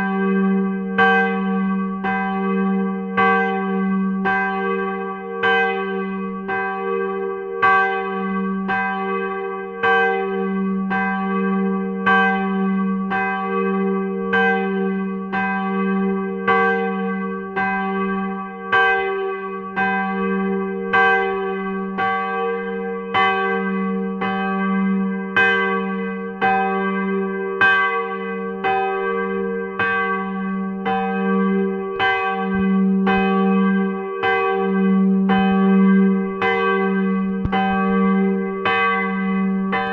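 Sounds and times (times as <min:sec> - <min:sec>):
swinging church bell ringing: 0:00.0 - 0:39.9.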